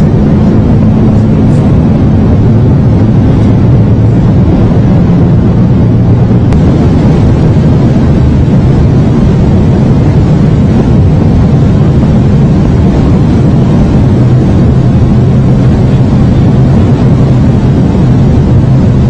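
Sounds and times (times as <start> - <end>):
high-speed train rumble: 0.0 - 19.0.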